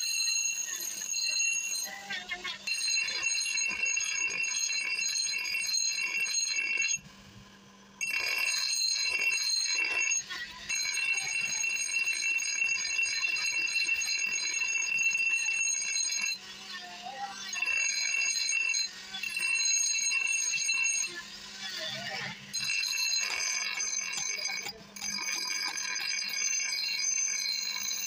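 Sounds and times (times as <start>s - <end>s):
grinder wheel grinding steel: 0.0s - 7.0s, 8.0s - 28.0s.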